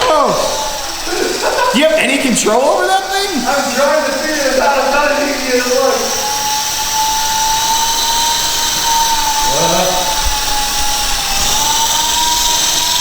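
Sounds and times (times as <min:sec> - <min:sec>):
toy helicopter motor whining: 0:00.0 - 0:13.0.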